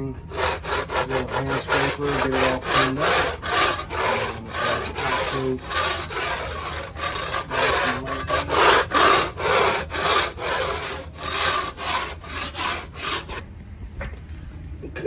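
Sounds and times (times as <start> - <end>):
hand scraper rasping on floor: 0.0 - 13.4.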